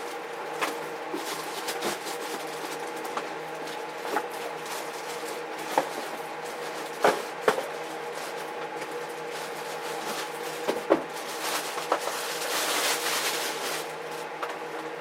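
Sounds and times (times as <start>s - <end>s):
ventilation fan humming: 0.0s - 15.0s.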